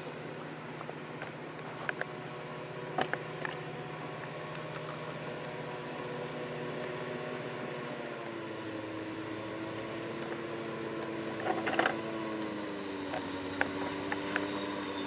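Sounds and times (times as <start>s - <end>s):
locomotive low hum: 0.0s - 15.0s.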